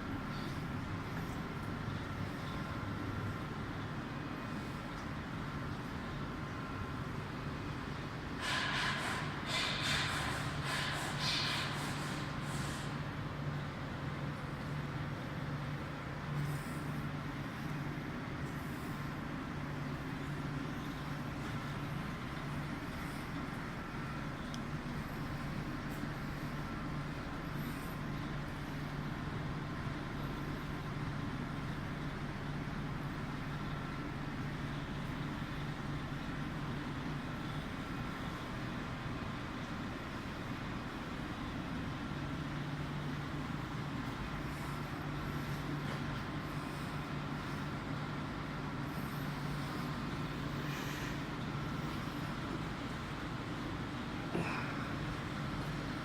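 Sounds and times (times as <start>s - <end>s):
car wash machinery humming: 0.0s - 56.0s.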